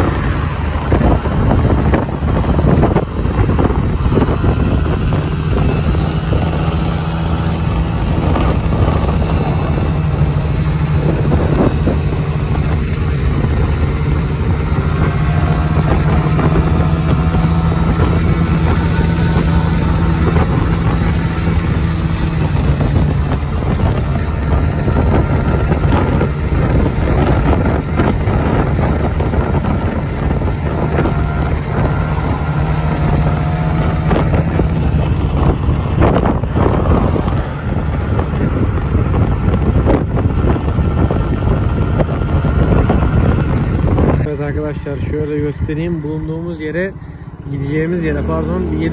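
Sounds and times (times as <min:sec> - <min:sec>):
scooter engine running: 0:00.0 - 0:44.4
wind rushing over microphone: 0:00.0 - 0:48.9.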